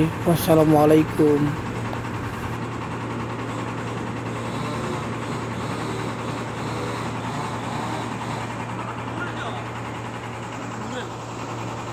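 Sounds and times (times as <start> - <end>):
diesel engine humming: 0.0 - 11.9.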